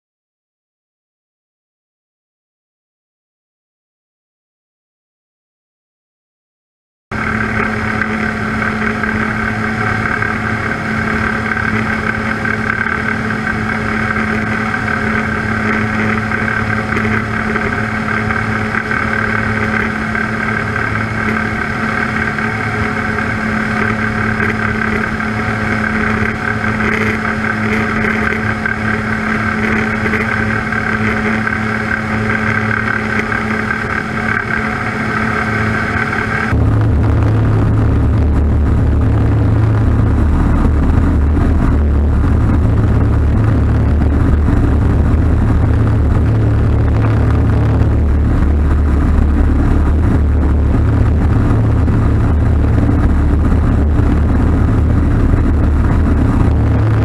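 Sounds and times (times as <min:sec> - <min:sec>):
light aircraft engine droning: 0:07.1 - 0:57.0.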